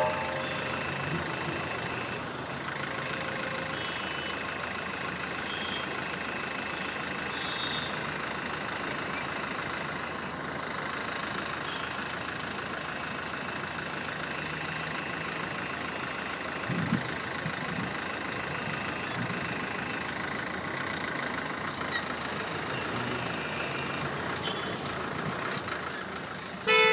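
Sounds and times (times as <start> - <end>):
car engines idling: 0.0 - 26.9.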